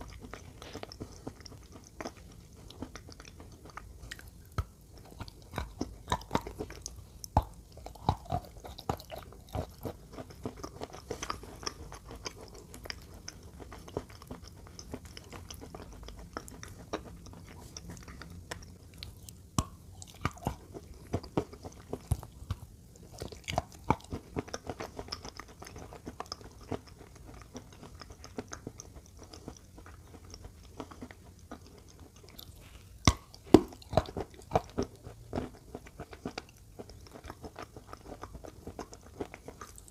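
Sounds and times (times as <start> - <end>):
person biting and chewing: 0.0 - 39.9.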